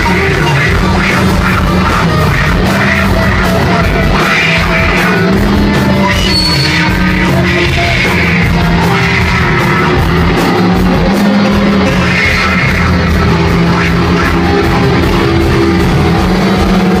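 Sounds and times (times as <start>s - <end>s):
heavy rock band playing live: 0.0s - 17.0s.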